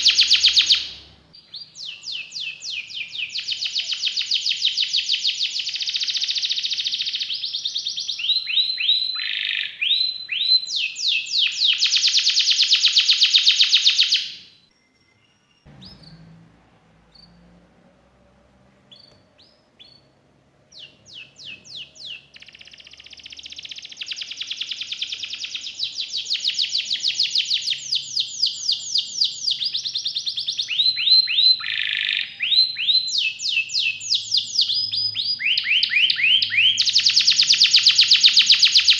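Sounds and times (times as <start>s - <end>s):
canary singing fast trills: 0.0s - 17.6s, 18.8s - 38.9s.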